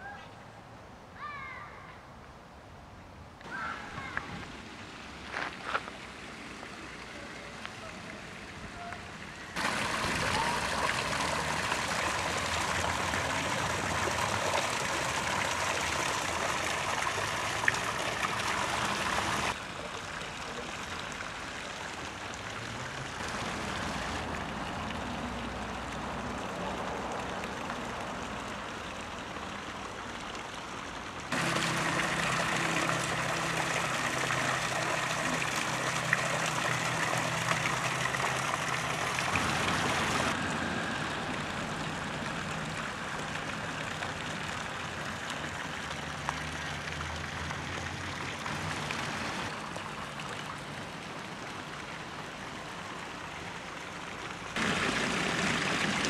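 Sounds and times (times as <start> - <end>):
fountain water splashing into basin: 3.5 - 56.0.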